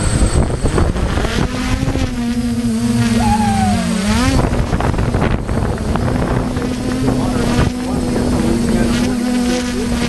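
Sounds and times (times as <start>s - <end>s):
motor humming: 0.0s - 10.0s
wind rumbling on microphone: 0.0s - 10.0s.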